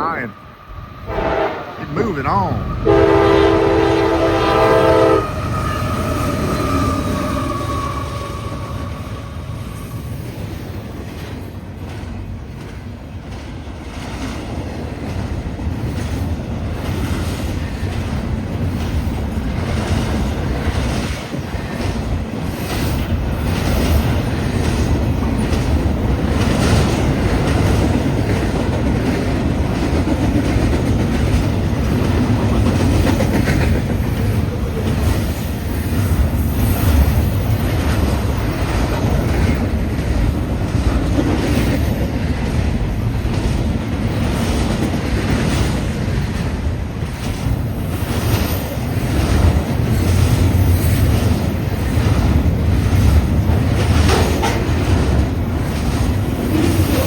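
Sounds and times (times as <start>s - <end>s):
freight train passing: 0.0s - 57.0s
wheels clacking on rails: 2.3s - 57.0s.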